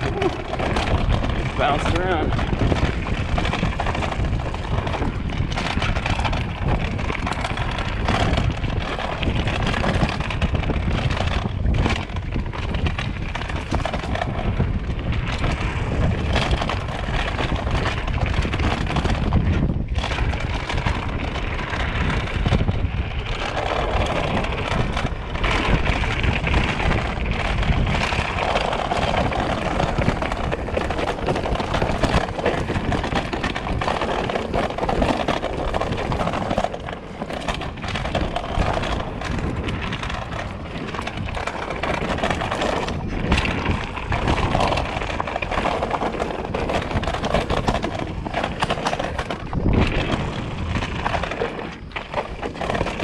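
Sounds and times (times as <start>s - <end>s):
bike rattling and knocking: 0.0s - 53.0s
bike tyres rumbling on dirt: 0.0s - 53.0s.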